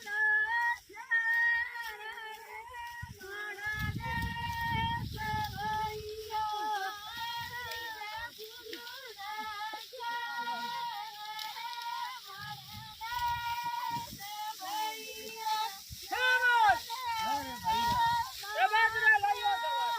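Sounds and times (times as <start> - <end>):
women singing unaccompanied: 0.0 - 19.9.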